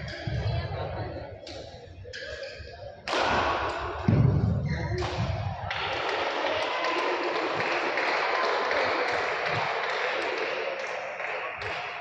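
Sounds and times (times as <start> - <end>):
murmur of crowd voices: 0.0 - 12.0.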